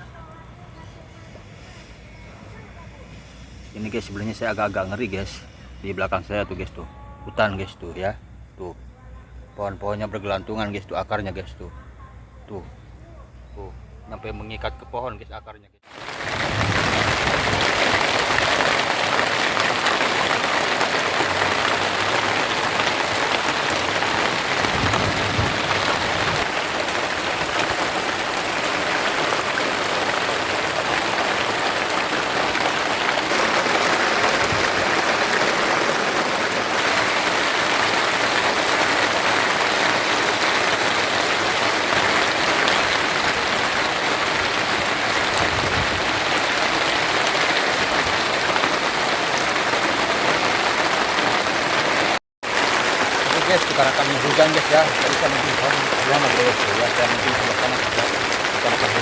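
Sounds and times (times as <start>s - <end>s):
steady rain falling: 1.3s - 8.8s, 15.8s - 59.0s.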